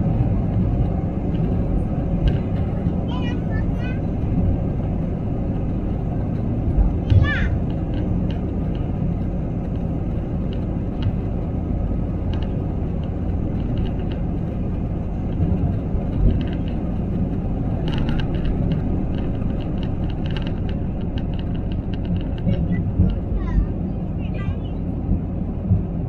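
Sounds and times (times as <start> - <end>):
jet engines rumbling: 0.0 - 26.0
wheels on runway: 0.0 - 26.0.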